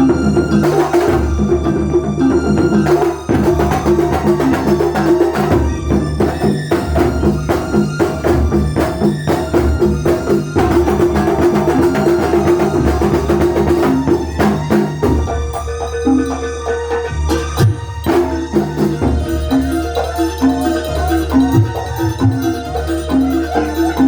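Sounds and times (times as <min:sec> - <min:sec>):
fast percussion drumming: 0:00.0 - 0:24.0.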